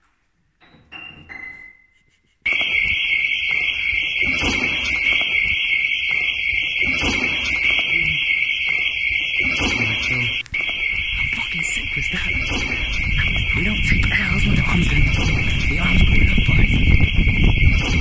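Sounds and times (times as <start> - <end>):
intruder alarm high-pitched: 1.2 - 18.0.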